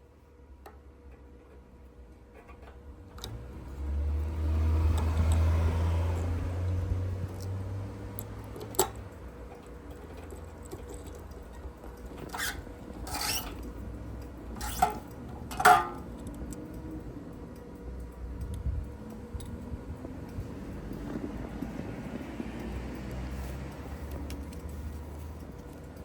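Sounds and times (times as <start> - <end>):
motorcycle engine rumble: 2.4 - 26.0.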